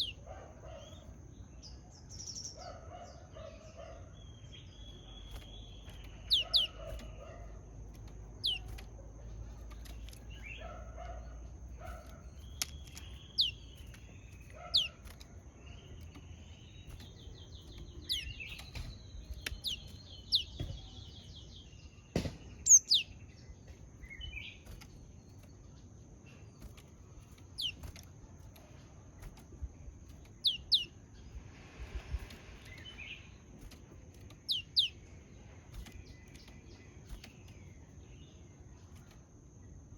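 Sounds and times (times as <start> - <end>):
bird chip calls: 0.0 - 39.2.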